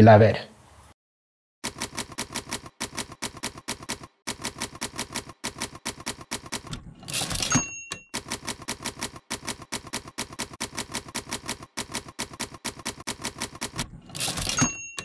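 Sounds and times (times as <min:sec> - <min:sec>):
typewriter keys striking: 0:01.6 - 0:15.0.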